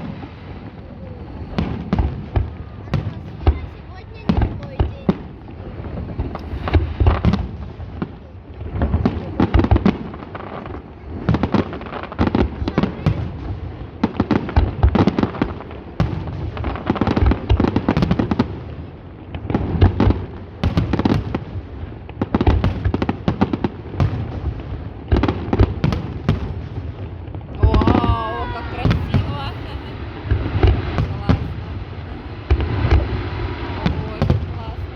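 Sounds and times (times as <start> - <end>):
fireworks bangs and crackle: 0.0 - 34.9.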